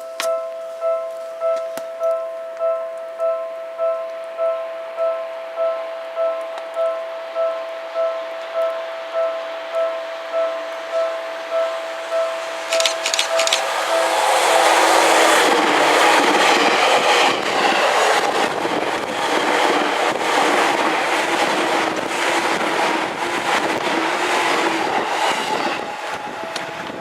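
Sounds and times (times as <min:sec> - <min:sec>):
level-crossing warning bell: 0:00.0 - 0:27.0
electric train passing: 0:02.0 - 0:27.0.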